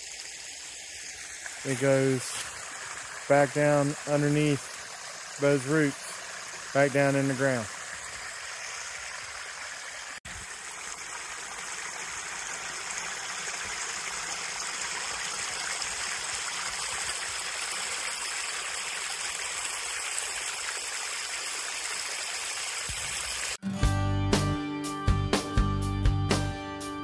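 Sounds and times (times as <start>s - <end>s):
waterfall splashing into pool: 0.0s - 23.6s.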